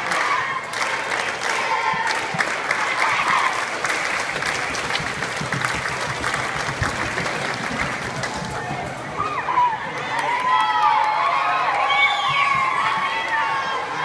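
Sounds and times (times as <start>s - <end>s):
crowd applause: 0.0s - 14.0s.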